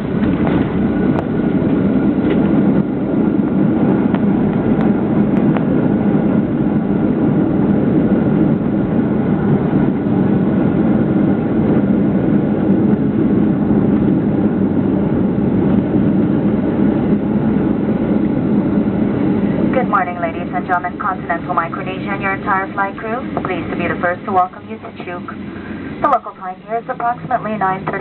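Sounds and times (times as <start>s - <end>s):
jet engines and rushing air: 0.0s - 28.0s.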